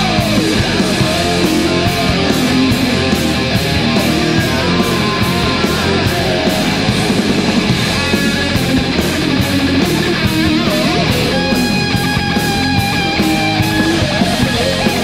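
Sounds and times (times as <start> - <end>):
drums: 0.0 - 15.0
electric guitar: 0.0 - 15.0.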